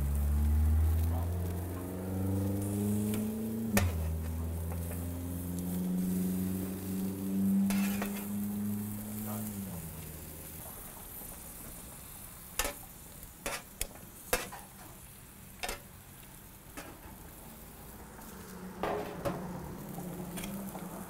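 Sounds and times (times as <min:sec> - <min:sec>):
food sizzling on grill: 0:00.0 - 0:21.0.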